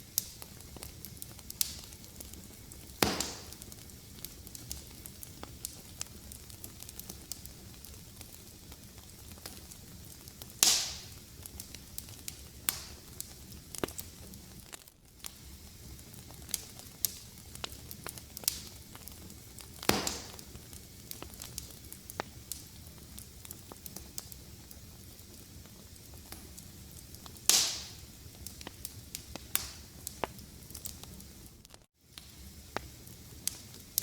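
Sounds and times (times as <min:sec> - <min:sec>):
fire crackling: 0:00.0 - 0:34.0
fire pops: 0:00.0 - 0:34.0.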